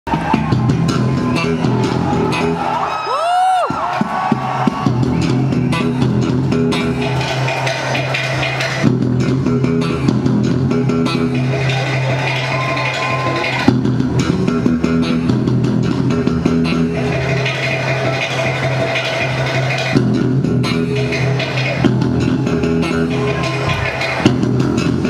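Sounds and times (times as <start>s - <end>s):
electric bass guitar: 0.1s - 2.8s, 3.9s - 25.0s.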